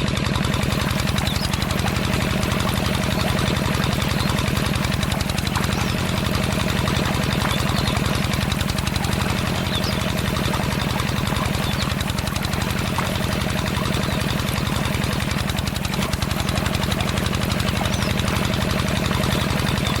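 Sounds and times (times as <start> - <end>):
small engine knocking: 0.0 - 20.0.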